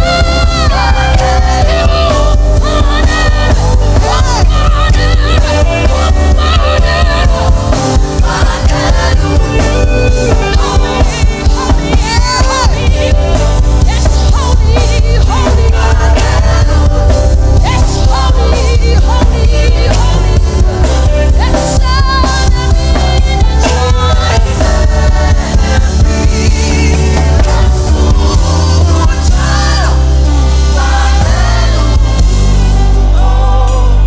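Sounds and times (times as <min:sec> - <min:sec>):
band with heavy bass and drums: 0:00.0 - 0:34.0
person singing: 0:00.0 - 0:34.0.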